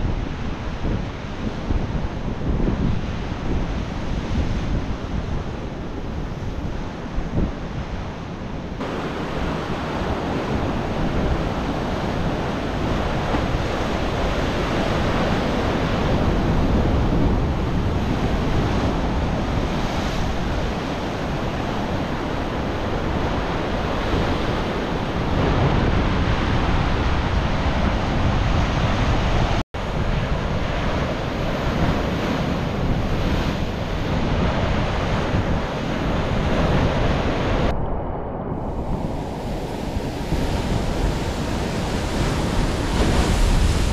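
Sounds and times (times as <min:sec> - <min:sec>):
ocean surf washing ashore: 0:00.0 - 0:43.9
wind: 0:00.0 - 0:43.9.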